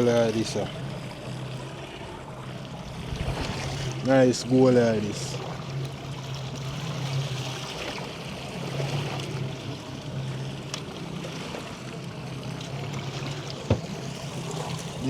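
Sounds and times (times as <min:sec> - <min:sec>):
boat engine idling: 0:00.0 - 0:15.0
water lapping against hull: 0:00.0 - 0:15.0.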